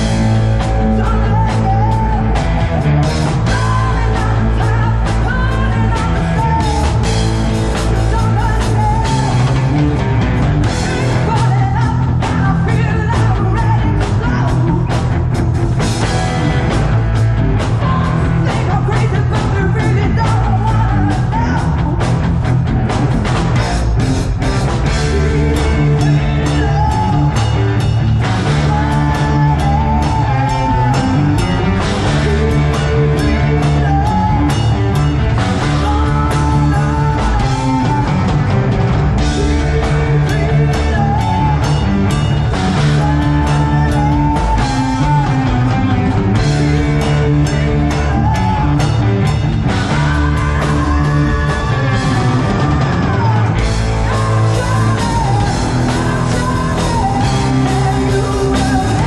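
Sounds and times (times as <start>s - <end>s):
bass guitar: 0.0s - 59.0s
drum kit: 0.0s - 59.0s
electric guitars: 0.0s - 59.0s
rock band playing live: 0.0s - 59.0s.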